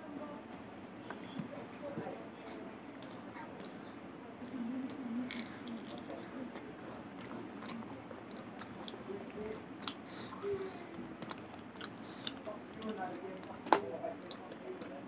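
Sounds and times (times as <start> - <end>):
close-up chewing: 2.4 - 15.0.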